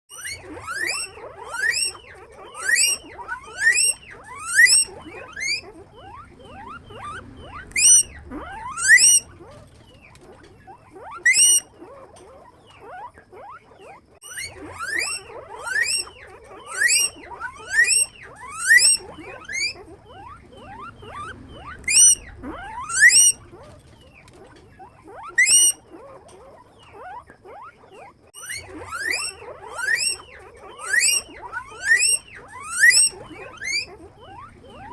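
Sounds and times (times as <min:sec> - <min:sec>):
guinea pig squeaking: 0:00.1 - 0:34.9.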